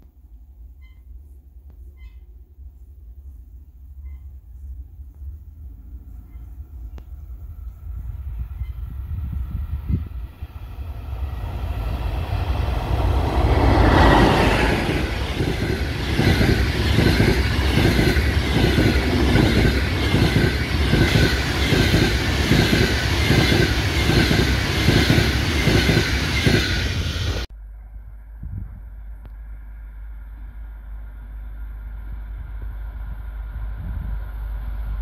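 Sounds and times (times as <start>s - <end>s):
passenger train passing: 3.9s - 27.5s, 29.0s - 35.0s.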